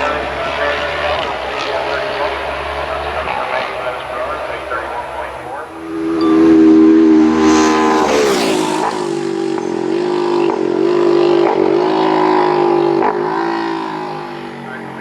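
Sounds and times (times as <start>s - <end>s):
racing motorcycle passing at speed: 0.0s - 15.0s.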